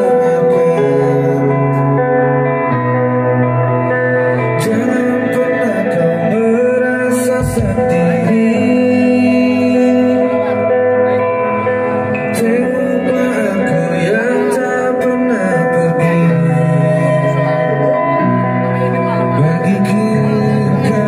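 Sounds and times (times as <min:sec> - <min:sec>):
man singing over guitar: 0:00.0 - 0:21.0.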